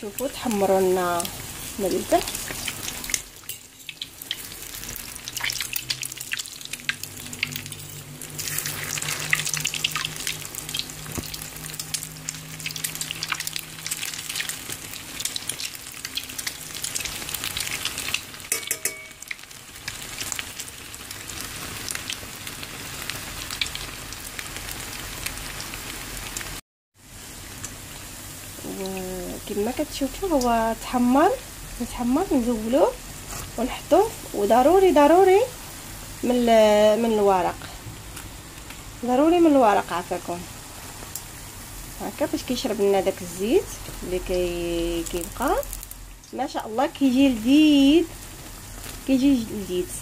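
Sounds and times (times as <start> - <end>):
bread frying in oil: 0.0 - 50.0
sizzle with spattering pops: 0.0 - 50.0.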